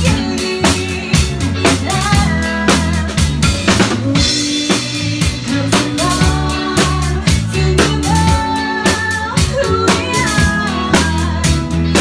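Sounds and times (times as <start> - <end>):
drum kit beat: 0.0 - 12.0
live band playing: 0.0 - 12.0.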